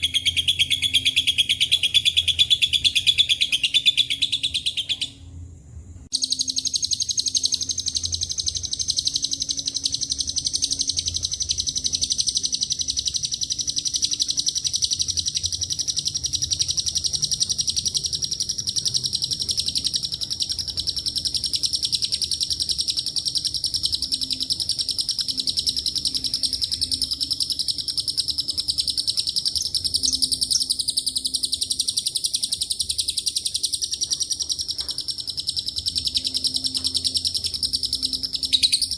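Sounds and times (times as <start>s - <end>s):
bird chattering trill: 0.0s - 5.3s, 6.1s - 38.9s.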